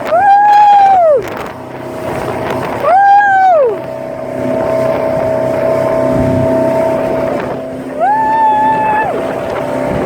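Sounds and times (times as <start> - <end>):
motorboat engine whining: 0.0 - 10.0
wind: 0.0 - 10.0.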